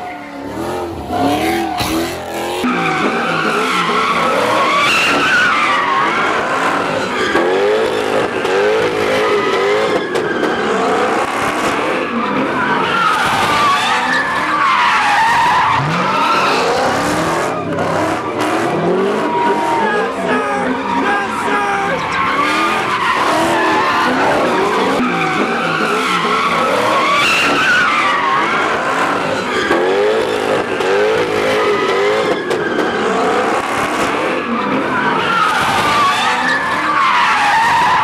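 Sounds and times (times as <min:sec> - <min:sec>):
car engines revving: 0:00.0 - 0:38.0
tires squealing: 0:00.0 - 0:38.0.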